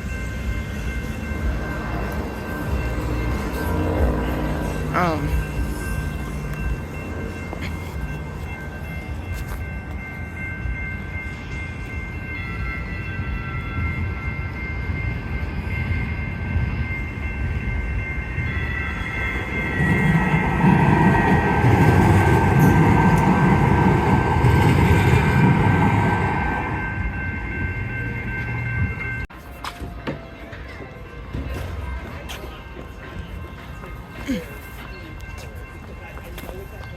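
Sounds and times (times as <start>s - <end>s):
light rail train rumble: 0.0s - 36.9s.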